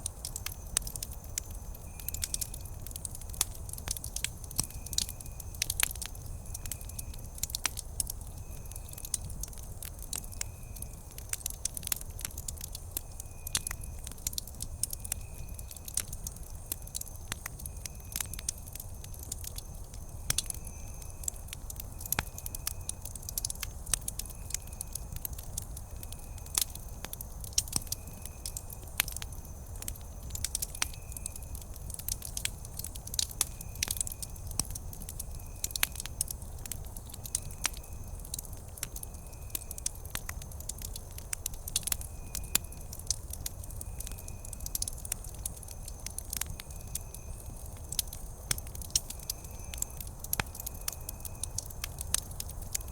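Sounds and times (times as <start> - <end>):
campfire crackling and popping: 0.0 - 52.9.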